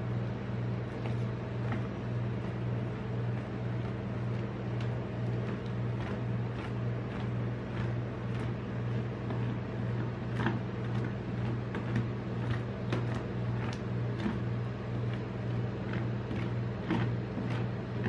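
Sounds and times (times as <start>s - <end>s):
refrigeration machine hum: 0.0s - 18.0s.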